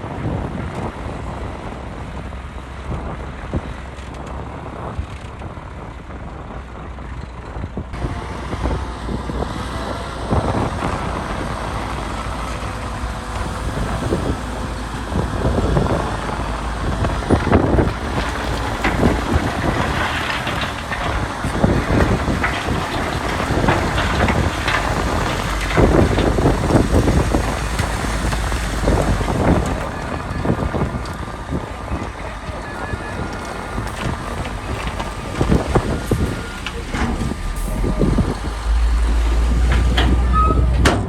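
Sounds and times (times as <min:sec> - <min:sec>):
heavy diesel machinery running: 0:00.0 - 0:41.0
knocks and rattles: 0:07.8 - 0:41.0.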